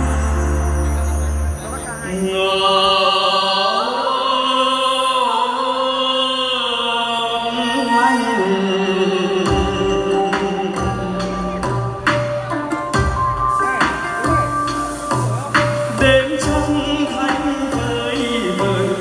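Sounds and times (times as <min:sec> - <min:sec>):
recorded musical accompaniment: 0:00.0 - 0:19.0
person singing long notes: 0:02.0 - 0:19.0.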